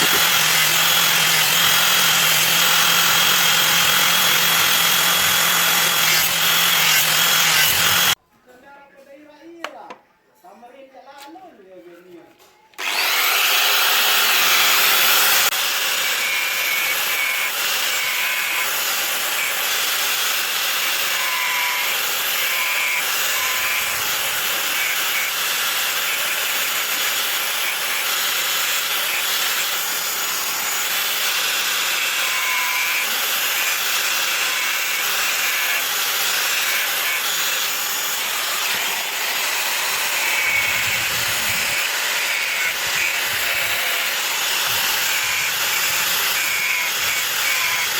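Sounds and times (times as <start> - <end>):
power grinder grinding steel: 0.0 - 8.2, 12.8 - 47.9.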